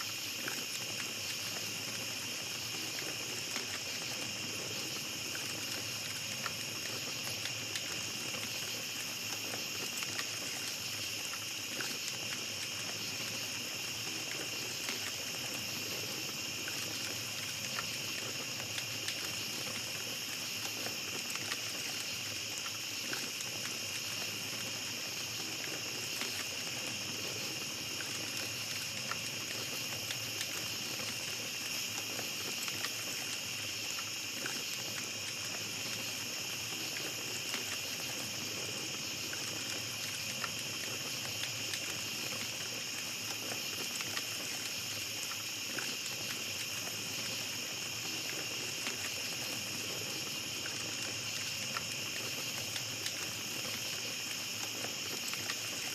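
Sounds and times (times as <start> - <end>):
campfire crackling and popping: 0.0 - 55.9
night insects chorus: 0.0 - 55.9.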